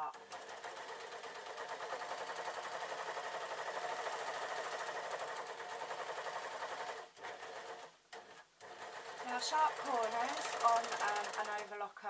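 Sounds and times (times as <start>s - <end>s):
overlocker sewing machine running: 0.0s - 11.7s.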